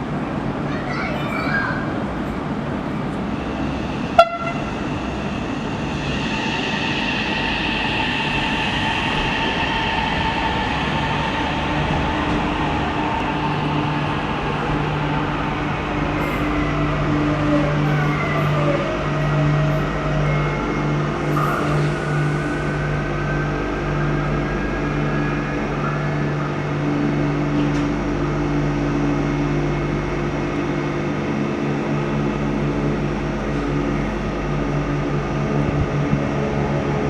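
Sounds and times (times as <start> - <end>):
train rumbling: 0.0 - 37.0
train whining tones: 0.0 - 37.0.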